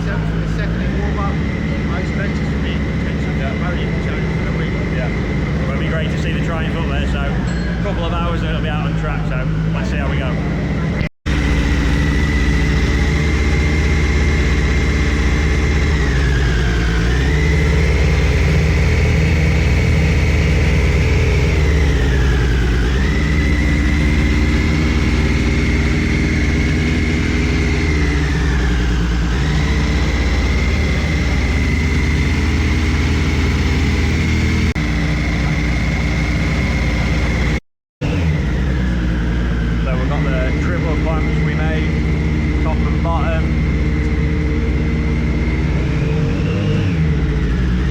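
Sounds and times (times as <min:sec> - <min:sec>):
engine humming with high whine: 0:00.0 - 0:47.9.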